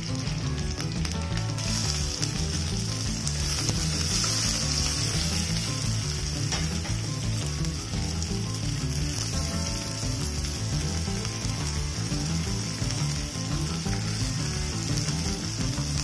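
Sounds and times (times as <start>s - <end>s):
onion sizzling in hot oil: 0.0s - 16.0s.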